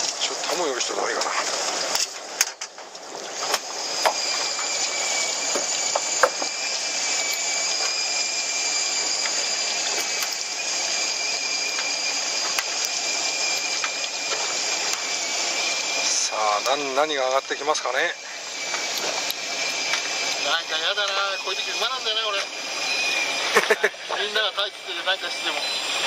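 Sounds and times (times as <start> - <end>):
steady high whine: 0.0 - 26.0
water rushing along boat hull: 0.0 - 26.0.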